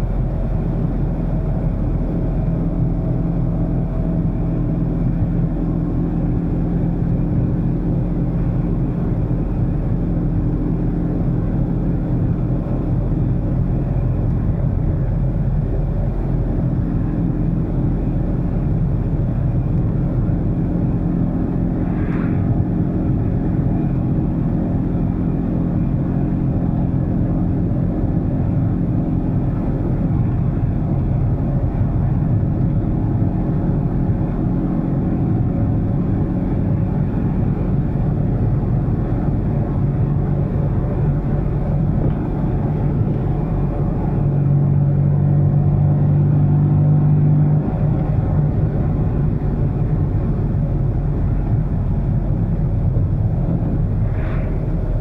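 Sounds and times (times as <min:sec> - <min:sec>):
car engine running while driving: 0:00.0 - 0:55.0.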